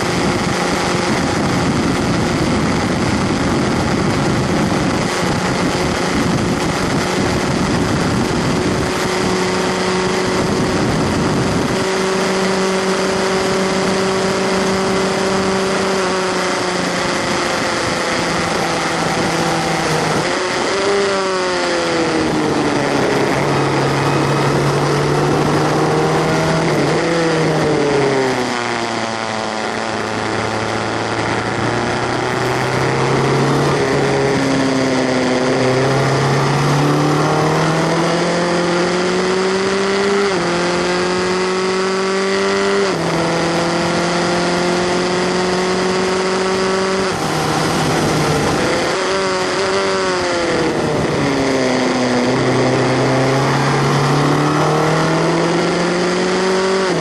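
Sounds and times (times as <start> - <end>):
race car engine revving: 0.0 - 57.0
wind and road noise: 0.0 - 57.0.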